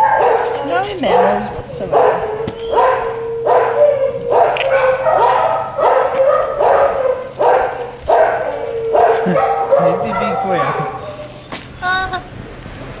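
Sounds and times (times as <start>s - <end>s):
dog barking and yipping: 0.0s - 11.5s.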